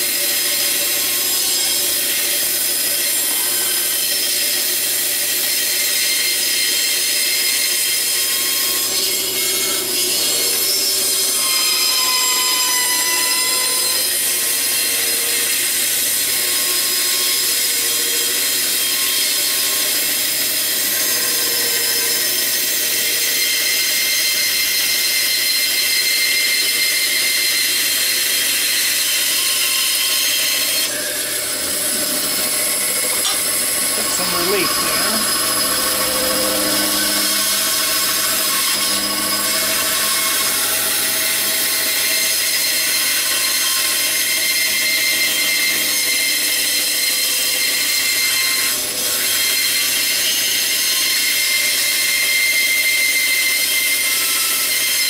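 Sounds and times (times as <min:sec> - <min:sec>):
bandsaw cutting wood: 0:00.0 - 0:55.0.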